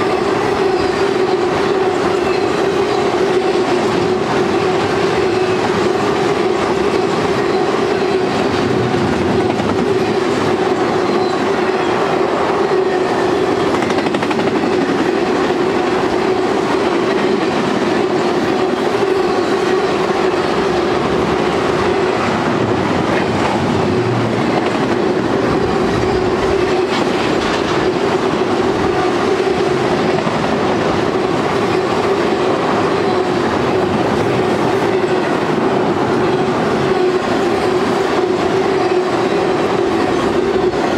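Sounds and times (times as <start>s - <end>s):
clickety-clack over rail joints: 0.0s - 40.9s
freight train wheels on rails: 0.0s - 40.9s.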